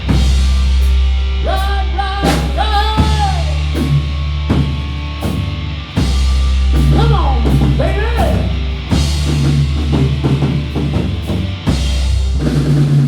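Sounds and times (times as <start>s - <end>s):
bending electric guitar lead: 0.0s - 13.0s
rock band playing: 0.0s - 13.0s.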